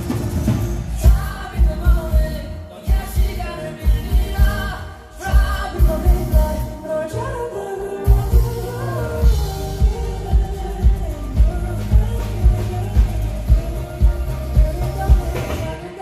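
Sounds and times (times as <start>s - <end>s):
live band playing: 0.0s - 16.0s
person singing: 0.9s - 16.0s.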